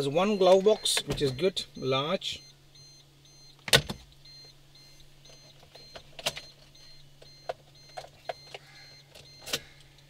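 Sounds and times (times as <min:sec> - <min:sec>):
car warning chime beeping: 0:00.0 - 0:09.8
low steady hum: 0:00.0 - 0:10.0.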